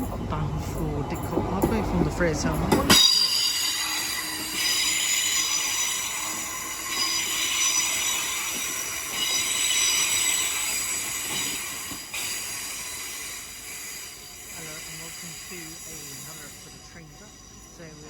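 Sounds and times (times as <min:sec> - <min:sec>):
train wheels squealing on rails: 0:02.6 - 0:18.0.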